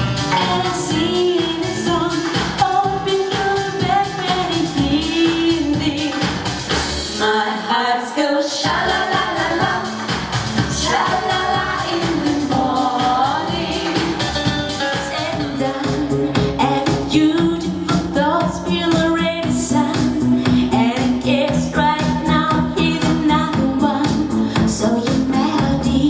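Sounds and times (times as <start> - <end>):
band with steady drum beat: 0.0 - 7.2, 8.7 - 26.0
woman singing pop song: 0.0 - 26.0.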